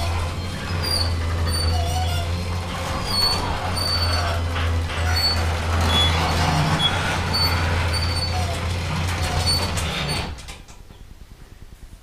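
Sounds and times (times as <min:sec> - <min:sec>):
garage door opener motor humming: 0:00.0 - 0:10.6.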